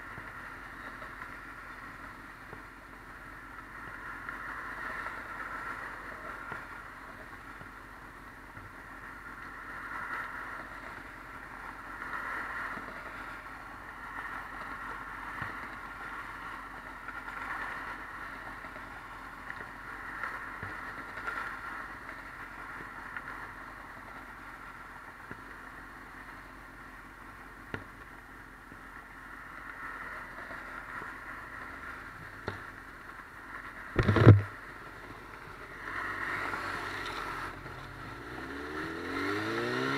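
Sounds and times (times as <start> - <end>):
freeway traffic hum: 0.0 - 39.9.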